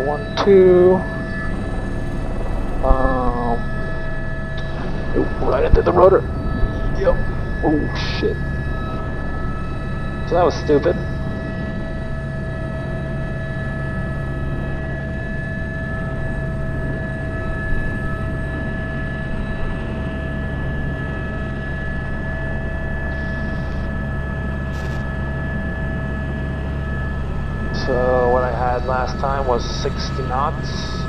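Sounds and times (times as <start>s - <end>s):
helicopter turbine whine: 0.0s - 31.0s
low rotor noise: 0.0s - 31.0s.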